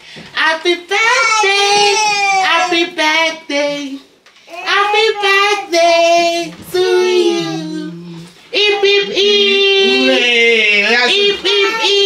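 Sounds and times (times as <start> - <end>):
lower voice singing: 0.4 - 10.3
woman and child singing: 0.4 - 10.3, 10.9 - 12.0.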